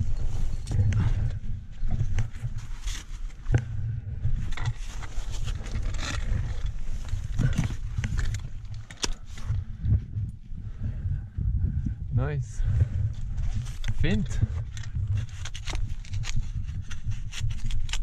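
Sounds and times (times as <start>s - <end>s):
low uneven rumble: 0.0s - 17.1s.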